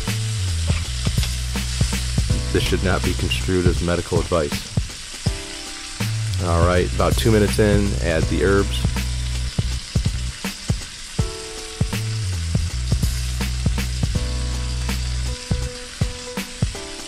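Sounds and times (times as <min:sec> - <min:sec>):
background music with low notes: 0:00.0 - 0:17.0
steak sizzling in a pan: 0:00.0 - 0:17.0.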